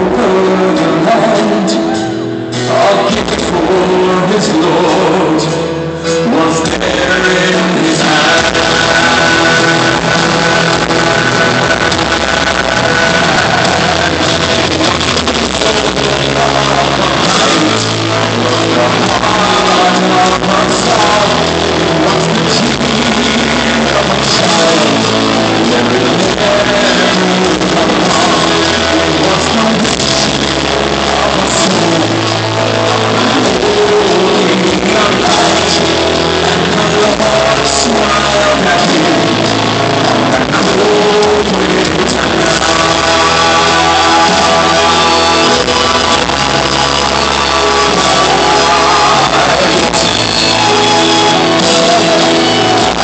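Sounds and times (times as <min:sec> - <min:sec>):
live band music with singing: 0:00.0 - 0:53.0.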